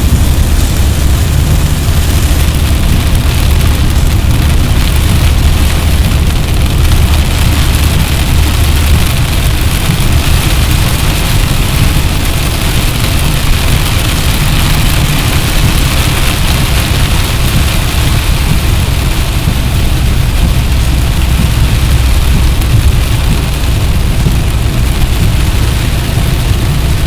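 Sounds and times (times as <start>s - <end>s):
rain and wet tyres hiss: 0.0s - 27.0s
vehicle engine and road rumble: 0.0s - 27.0s.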